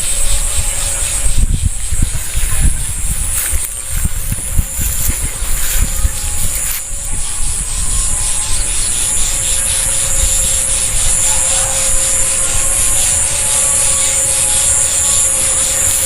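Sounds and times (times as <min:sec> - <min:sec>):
high-pitched pulsing buzz: 0:00.0 - 0:16.0
wind rumbling on microphone: 0:00.0 - 0:16.0.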